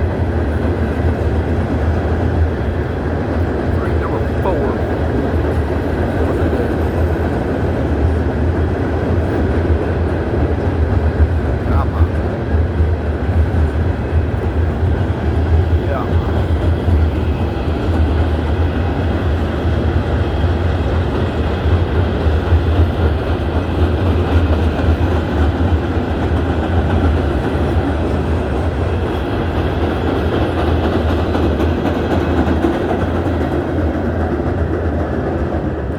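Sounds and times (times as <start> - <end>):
train wheels on track: 0.0 - 35.9.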